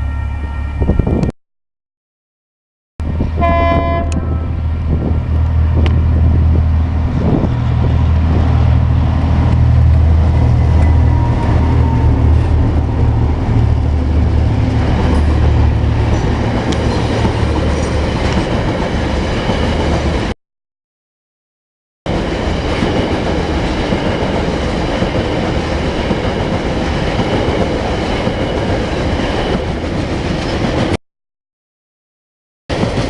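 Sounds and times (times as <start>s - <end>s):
train wagons rumbling on rails: 3.0s - 20.4s, 22.1s - 31.0s, 32.7s - 33.0s.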